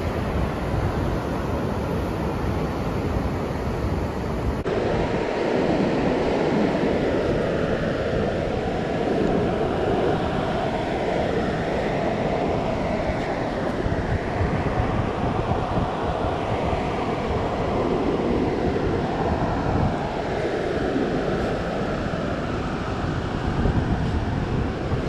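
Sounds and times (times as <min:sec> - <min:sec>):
surf washing on beach: 0:00.0 - 0:25.0
wind buffeting microphone: 0:00.0 - 0:25.0.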